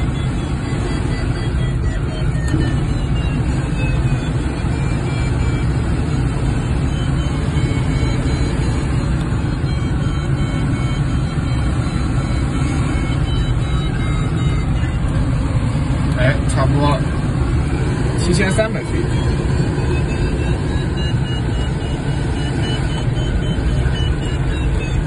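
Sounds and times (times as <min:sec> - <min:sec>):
airflow rushing in cockpit: 0:00.0 - 0:25.0
faint high beeping: 0:00.0 - 0:25.0.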